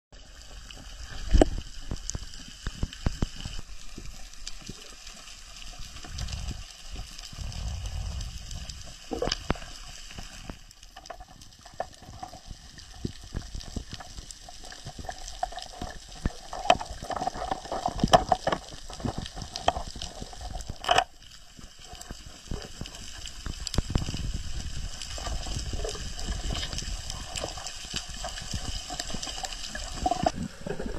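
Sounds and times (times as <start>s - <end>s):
underwater bubbling and rushing water: 0.2s - 30.9s.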